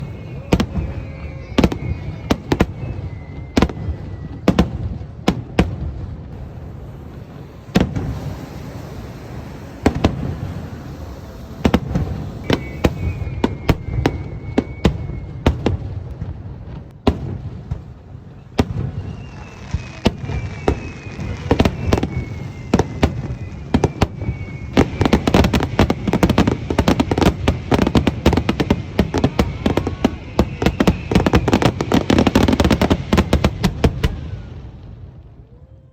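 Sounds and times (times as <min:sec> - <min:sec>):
fireworks bursting with bangs: 0:00.0 - 0:35.6
firework crackling: 0:00.0 - 0:35.9
firework whistling: 0:00.0 - 0:35.9.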